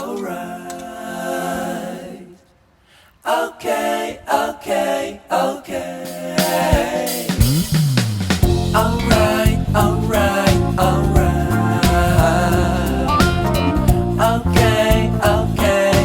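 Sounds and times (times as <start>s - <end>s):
song with sung vocals: 0.0s - 16.0s.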